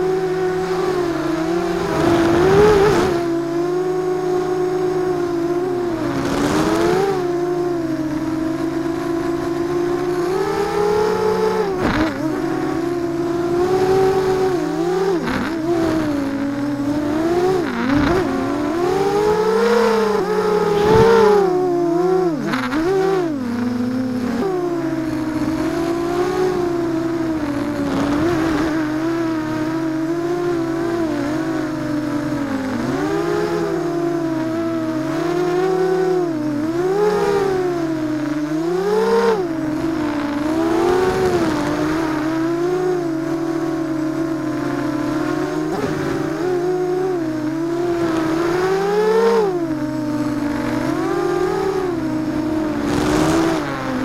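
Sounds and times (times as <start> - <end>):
drone motors whining: 0.0 - 54.0.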